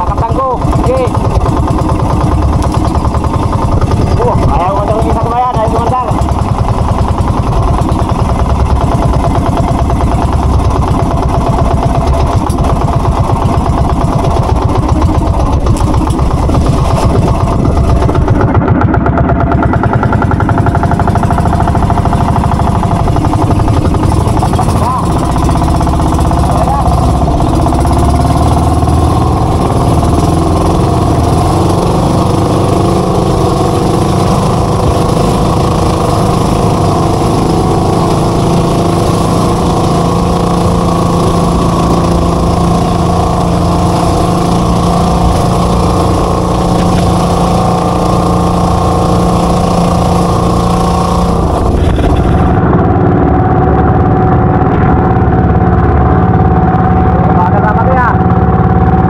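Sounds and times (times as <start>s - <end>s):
boat engines running: 0.0s - 59.0s.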